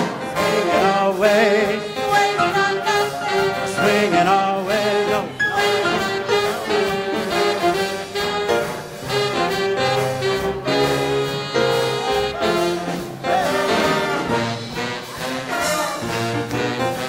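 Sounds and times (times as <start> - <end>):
big band swing jazz: 0.0 - 17.0.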